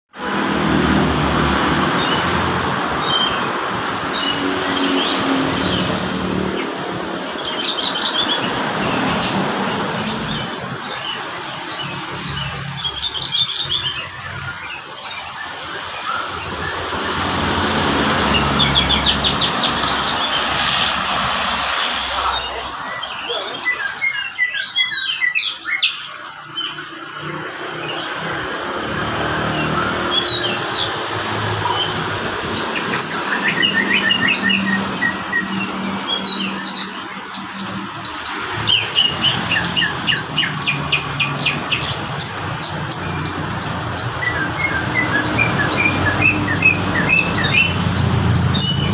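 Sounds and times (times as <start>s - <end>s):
bushlark singing chirps and trills: 1.0s - 48.9s.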